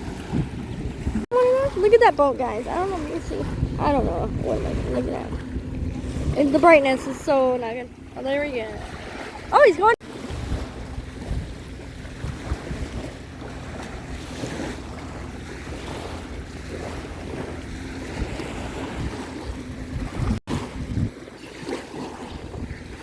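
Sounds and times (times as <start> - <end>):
motorboat engine hum: 0.0 - 23.0
wind buffeting microphone: 0.0 - 23.0.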